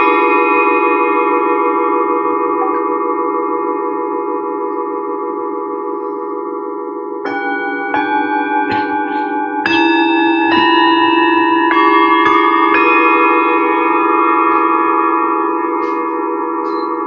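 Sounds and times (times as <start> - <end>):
metal singing bowls ringing: 0.0 - 17.0.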